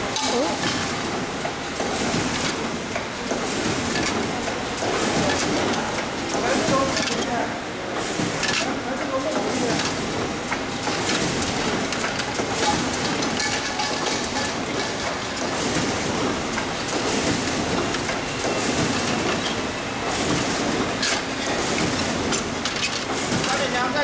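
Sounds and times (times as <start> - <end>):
printing machine clattering: 0.0 - 24.0.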